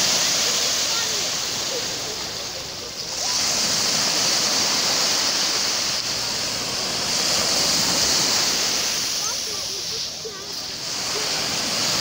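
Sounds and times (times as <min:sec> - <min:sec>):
waves washing up a sandy beach: 0:00.0 - 0:12.0.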